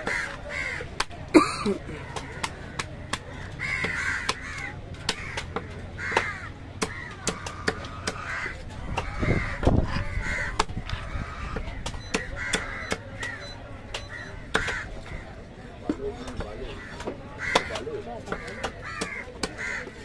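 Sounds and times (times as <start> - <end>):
crows cawing: 0.0 - 1.0, 2.0 - 13.5, 14.1 - 15.4, 16.7 - 20.0.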